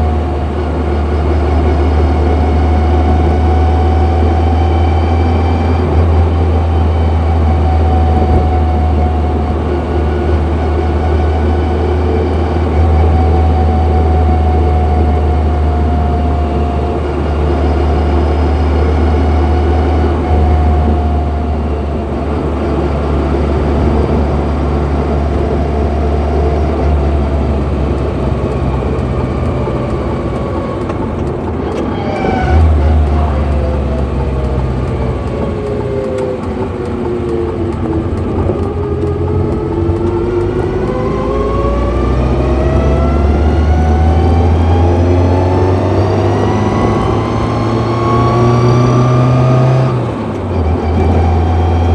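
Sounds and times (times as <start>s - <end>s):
car engine drone: 0.0s - 51.9s
gearbox whine: 0.0s - 51.9s.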